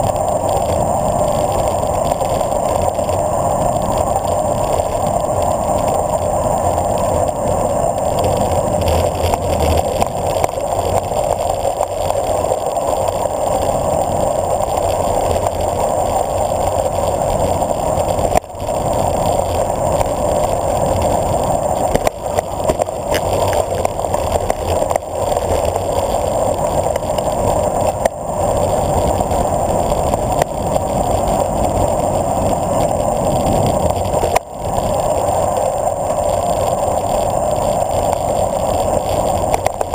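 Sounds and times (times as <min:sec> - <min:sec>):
bicycle road noise: 0:00.0 - 0:39.9.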